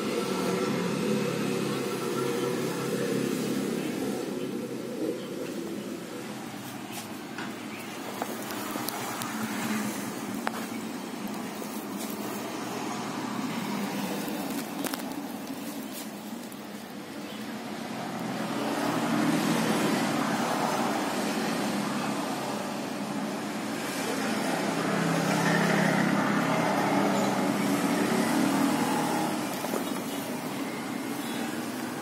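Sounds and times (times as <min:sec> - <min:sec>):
motor vehicles passing: 0:00.0 - 0:32.0.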